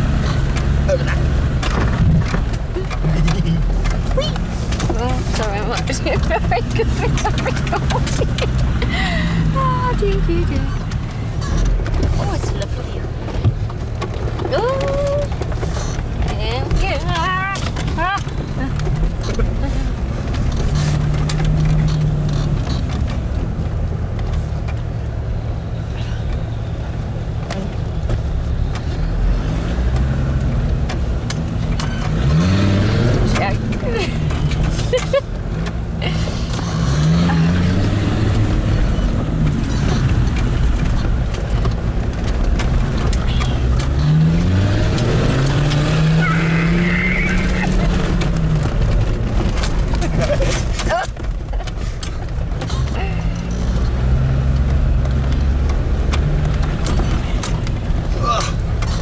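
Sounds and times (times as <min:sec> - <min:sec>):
knocks and rattles: 0:00.0 - 0:25.5, 0:26.4 - 0:59.0
rough rumble: 0:00.0 - 0:59.0
vehicle engine at low revs: 0:00.0 - 0:59.0.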